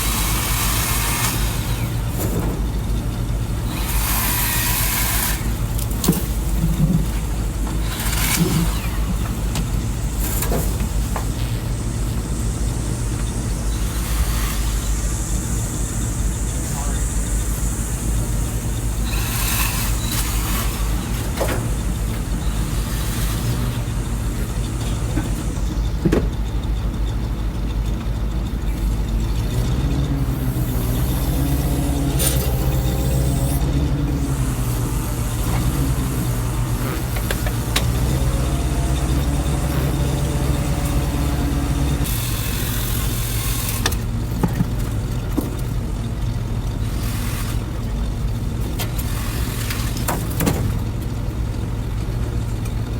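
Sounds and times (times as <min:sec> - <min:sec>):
engine running: 0:00.0 - 0:52.9.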